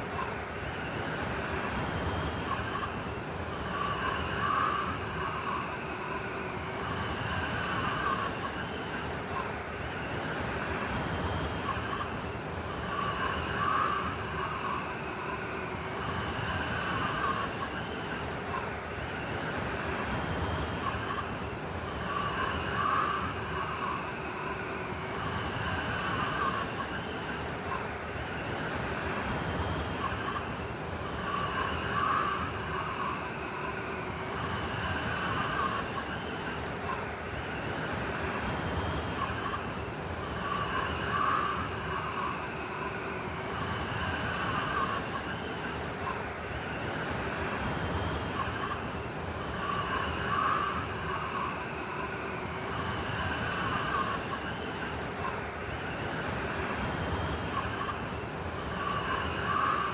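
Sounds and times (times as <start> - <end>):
blizzard wind howling: 0.0 - 59.9.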